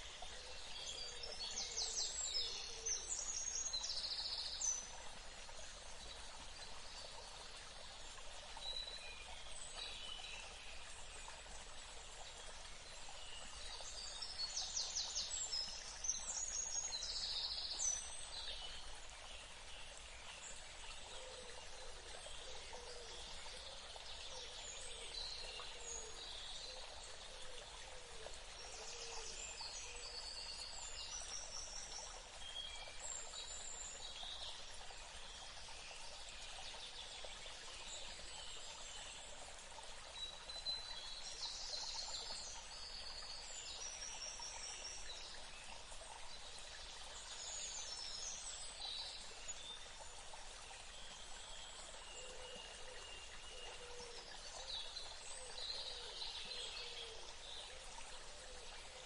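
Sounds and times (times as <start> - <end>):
running water hiss: 0.0 - 59.0.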